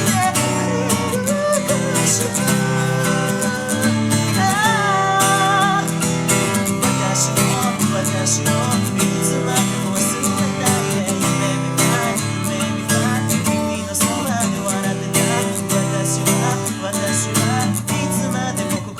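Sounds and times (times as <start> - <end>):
acoustic guitar strumming chords: 0.0 - 18.9
person singing: 0.0 - 18.9.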